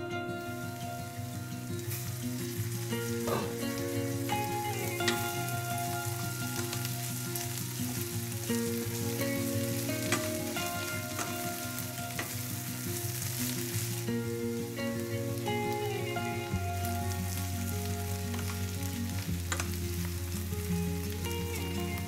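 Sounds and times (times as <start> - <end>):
background music with held notes: 0.0 - 22.0
vegetables sizzling in a frying pan: 0.0 - 22.0.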